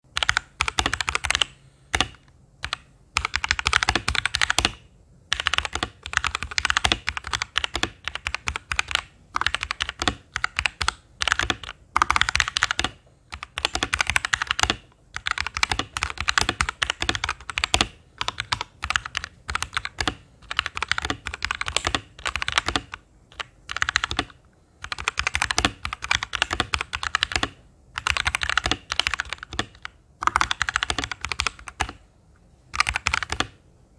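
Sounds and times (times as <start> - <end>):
mechanical keyboard typing: 0.1 - 32.1, 32.7 - 33.6.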